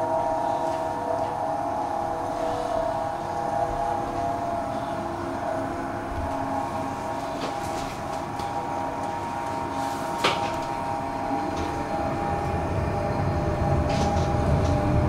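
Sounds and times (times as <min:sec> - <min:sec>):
steady tones: 0:00.0 - 0:15.0
tram rumbling on rails: 0:00.0 - 0:15.0.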